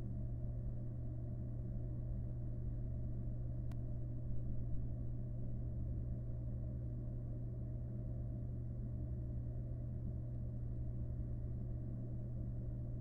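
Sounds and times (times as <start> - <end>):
low hum with rumble: 0.0 - 13.0.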